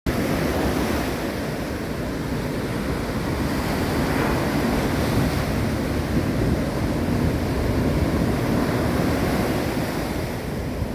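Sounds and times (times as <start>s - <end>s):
ocean surf: 0.1s - 10.9s
wind buffeting microphone: 0.1s - 10.9s.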